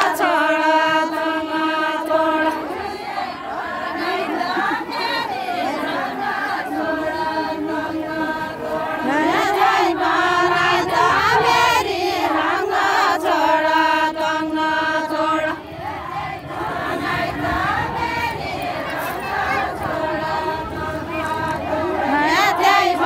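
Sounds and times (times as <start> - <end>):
women singing in unison: 0.0 - 23.0.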